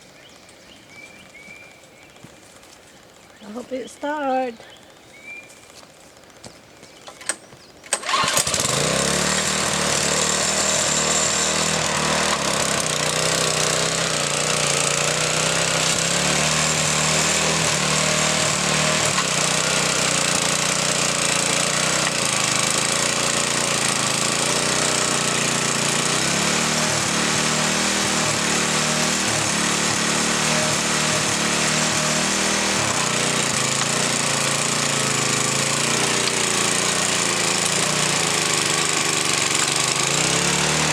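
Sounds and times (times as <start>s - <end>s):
small engine starting and running: 5.0s - 40.9s.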